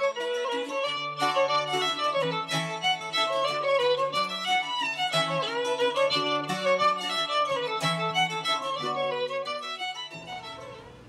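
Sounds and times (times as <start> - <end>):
instrumental melody with sliding notes: 0.0 - 11.0.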